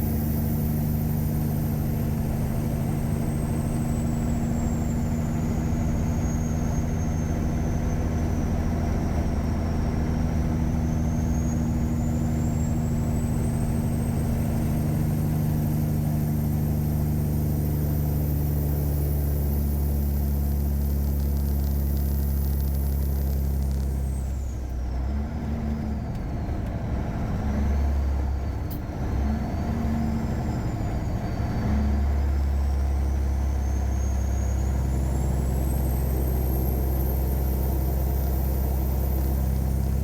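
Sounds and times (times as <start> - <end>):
truck diesel engine drone: 0.0 - 40.0.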